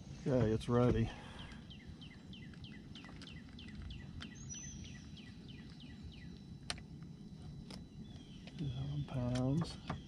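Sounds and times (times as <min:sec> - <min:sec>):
faint outdoor ambience: 0:00.0 - 0:10.0
bird chirping: 0:00.1 - 0:06.4, 0:07.8 - 0:10.0.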